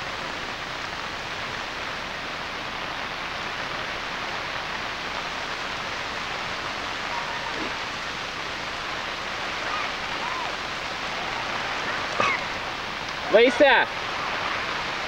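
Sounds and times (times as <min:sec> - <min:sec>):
rain falling on floodwater: 0:00.0 - 0:15.0.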